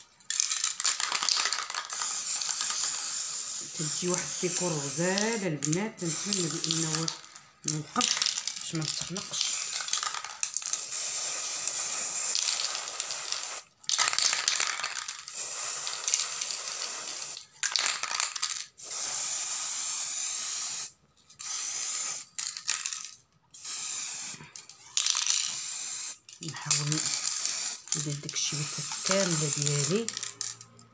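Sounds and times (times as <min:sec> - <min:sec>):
spray paint can hissing: 0:00.3 - 0:23.0, 0:23.6 - 0:30.5.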